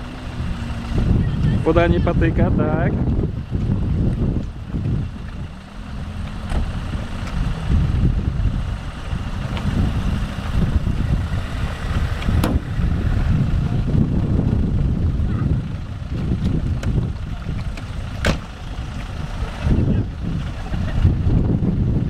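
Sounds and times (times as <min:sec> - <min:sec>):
engine rumbling: 0:00.0 - 0:22.0
wind buffeting microphone: 0:00.0 - 0:22.0.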